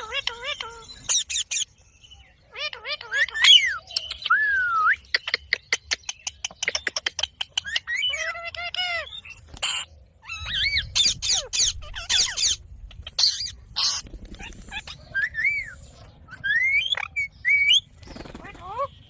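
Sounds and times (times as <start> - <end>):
parakeet screeching and chirping: 0.0 - 1.8, 2.5 - 3.9, 6.6 - 19.0.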